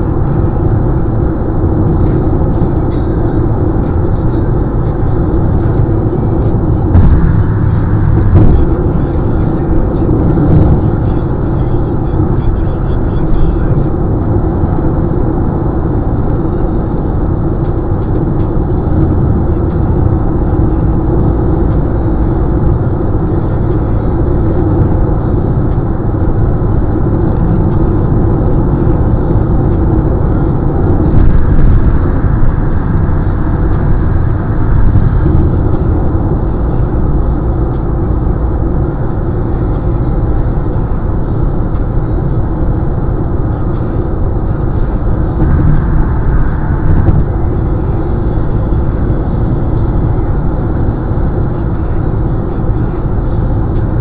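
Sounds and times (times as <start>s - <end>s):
car road noise from inside cabin: 0.0s - 54.0s.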